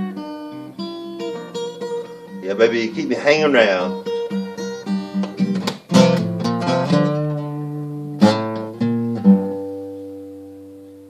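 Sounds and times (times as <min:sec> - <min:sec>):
acoustic guitar strumming and picking: 0:00.0 - 0:11.0.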